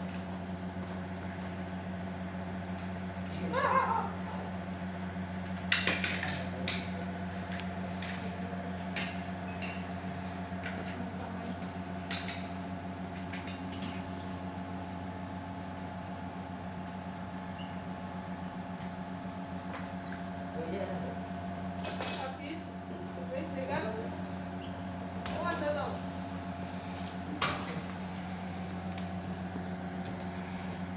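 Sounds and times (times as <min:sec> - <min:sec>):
low mechanical hum: 0:00.0 - 0:30.9.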